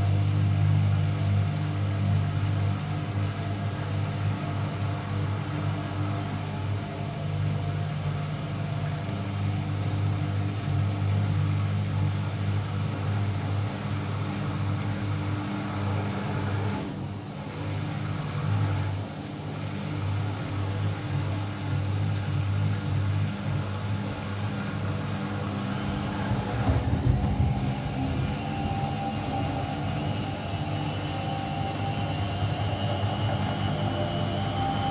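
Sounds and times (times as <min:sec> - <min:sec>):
washing machine spinning: 0:00.0 - 0:34.9.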